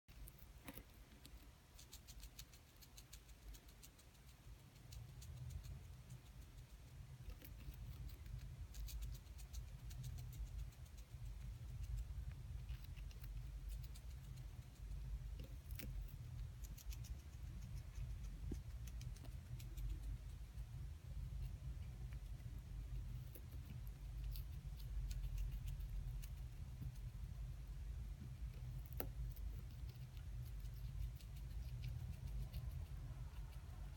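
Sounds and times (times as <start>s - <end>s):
hamster gnawing carrot: 0.1s - 33.9s.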